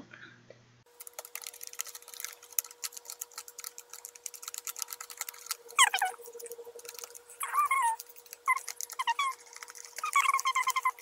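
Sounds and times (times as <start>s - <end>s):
plastic spoon stirring in tray: 0.9s - 11.0s.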